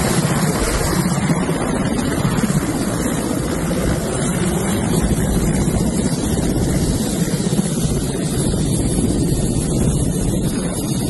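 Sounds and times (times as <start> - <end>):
helicopter idling: 0.0 - 11.0
rotor wash buffeting microphone: 0.0 - 11.0.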